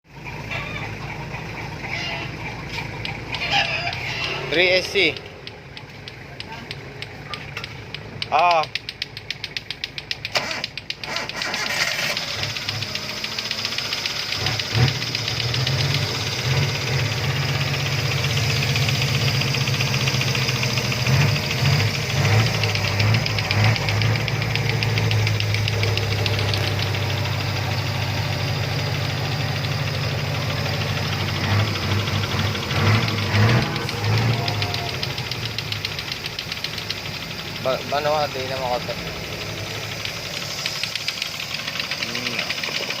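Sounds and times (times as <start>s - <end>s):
engine running with rapid knock: 0.1s - 43.0s
engine revving: 1.4s - 43.0s.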